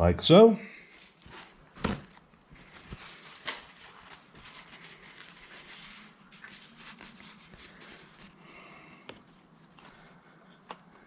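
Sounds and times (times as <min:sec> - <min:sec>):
faint rustling: 0:00.8 - 0:11.0.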